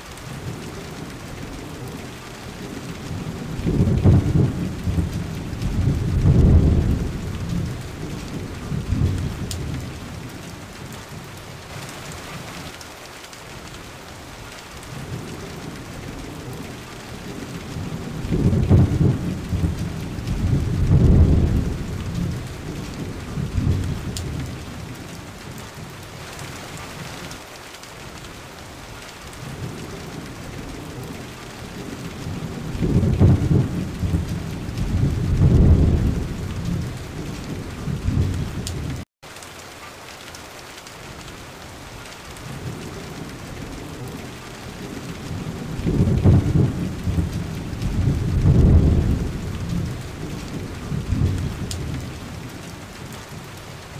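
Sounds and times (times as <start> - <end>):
steady rain falling: 0.0 - 53.9
low rolls of thunder: 0.3 - 11.0, 14.9 - 27.3, 29.4 - 39.0, 42.4 - 53.5.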